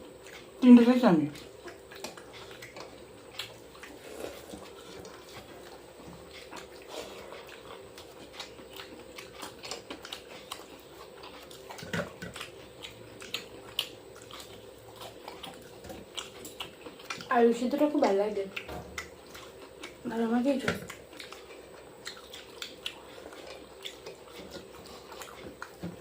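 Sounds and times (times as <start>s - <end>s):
chewing with wet smacks: 0.0s - 26.0s
faint steady hum: 0.0s - 26.0s.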